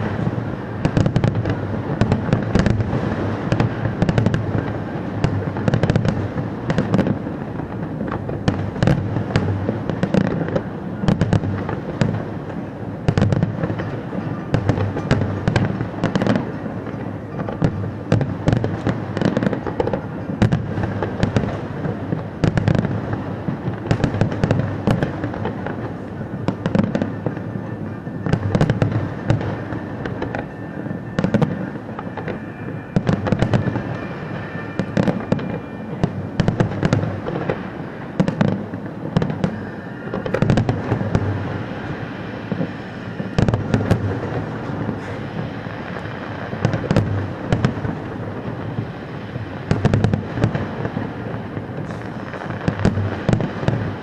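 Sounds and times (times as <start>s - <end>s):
fireworks bangs: 0.0s - 54.0s
fireworks rumble and crackle: 0.0s - 54.0s.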